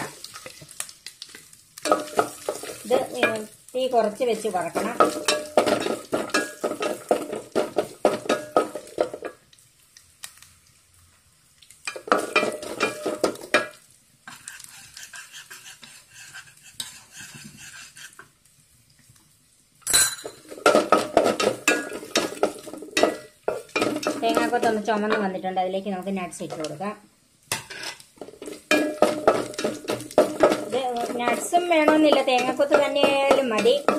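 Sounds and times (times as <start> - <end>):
spatula stirring and scraping pot: 0.0 - 9.4, 11.9 - 18.4, 20.3 - 25.3, 27.5 - 33.9
light sizzle: 0.0 - 33.9.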